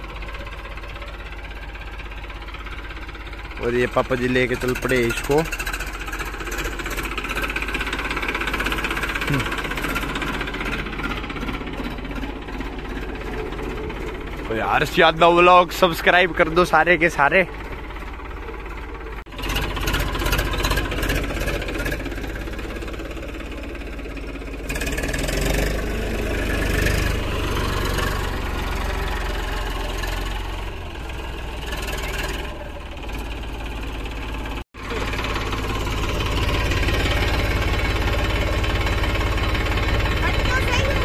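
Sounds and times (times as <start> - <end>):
tractor diesel engine: 0.0 - 41.0.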